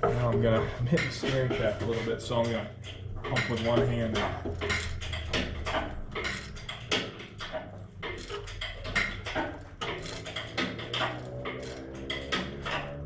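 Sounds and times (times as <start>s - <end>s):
hydraulic hoist pump clicks and knocks: 0.0s - 13.0s.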